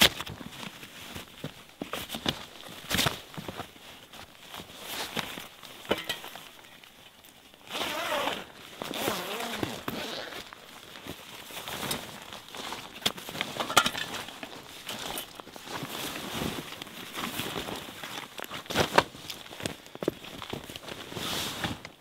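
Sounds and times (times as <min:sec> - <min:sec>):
nylon fabric rustling: 0:00.0 - 0:22.0.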